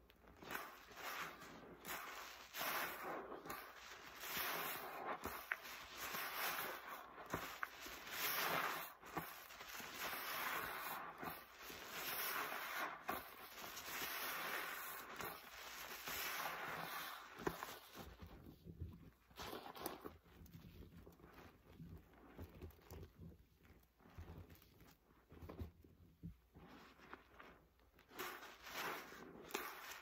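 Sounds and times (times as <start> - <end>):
sponge squishing in foam: 0.0 - 30.0.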